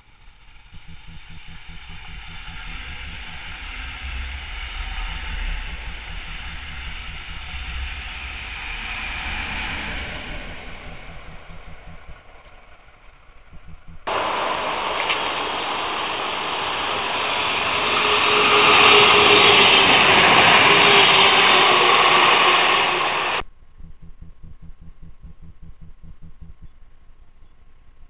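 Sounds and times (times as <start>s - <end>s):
train rushing past: 0.2s - 23.4s.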